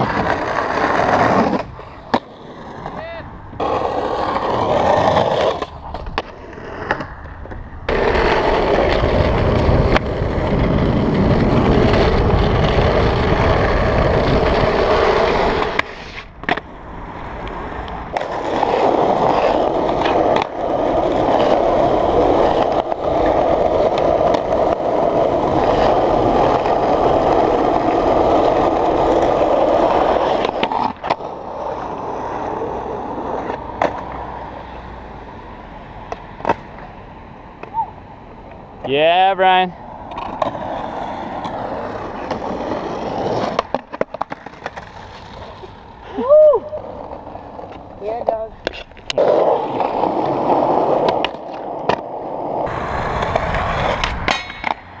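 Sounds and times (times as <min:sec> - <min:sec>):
skateboard wheels rolling on asphalt: 0:00.0 - 0:55.0.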